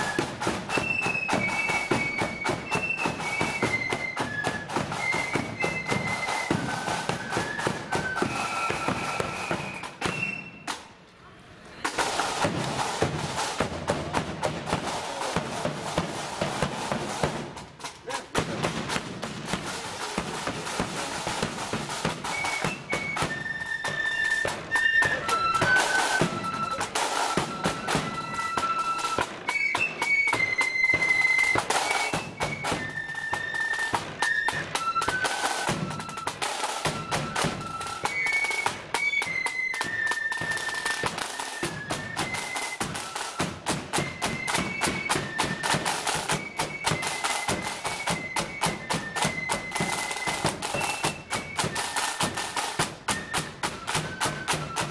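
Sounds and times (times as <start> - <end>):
snare drums beating: 0.0 - 10.9, 11.9 - 54.9
unison flutes melody: 0.0 - 10.9, 11.8 - 54.9.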